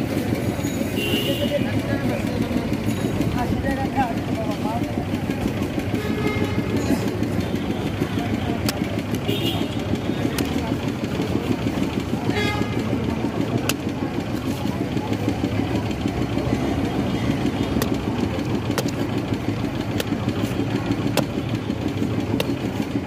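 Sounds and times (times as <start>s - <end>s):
motor engine rumble: 0.0s - 23.0s.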